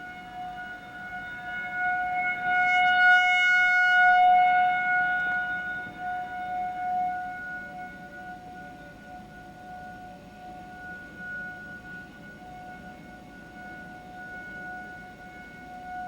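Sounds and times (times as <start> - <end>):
civil defense siren steady tone: 0.0 - 16.0.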